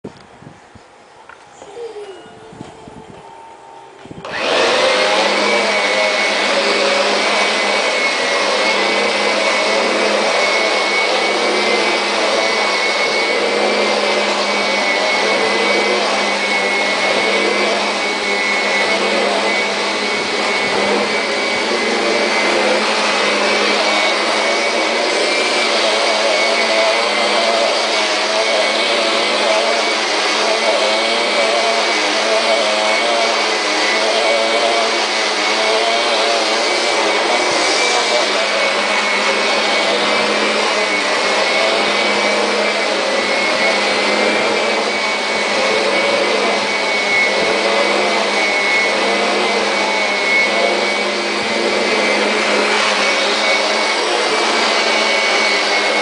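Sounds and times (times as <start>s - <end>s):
vacuum cleaner running: 0.1s - 56.0s.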